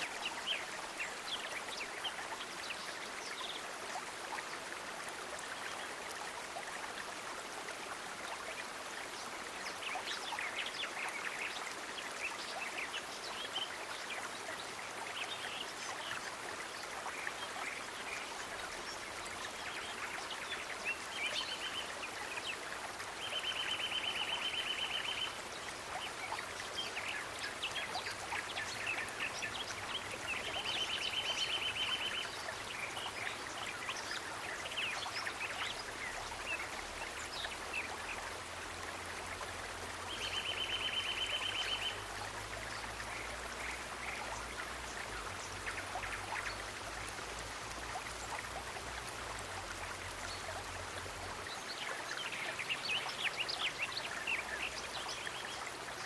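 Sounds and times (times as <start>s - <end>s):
stream of running water: 0.0s - 56.0s.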